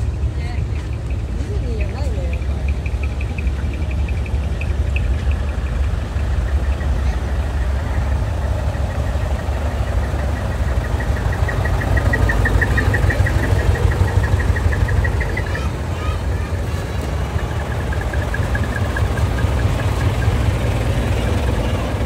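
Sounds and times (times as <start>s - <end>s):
diesel truck engine idling: 0.0s - 22.0s
rapid high ticking: 0.0s - 22.0s.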